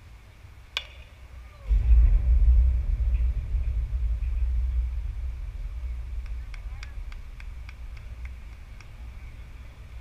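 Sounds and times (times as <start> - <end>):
wind buffeting microphone: 1.6 - 10.0.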